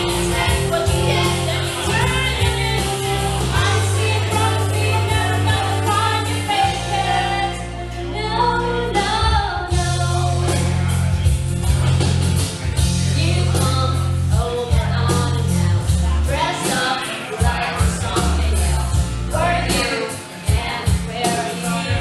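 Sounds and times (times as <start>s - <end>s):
woman singing into microphone: 0.0s - 10.8s, 13.2s - 22.0s
backing music with bass line: 0.0s - 22.0s.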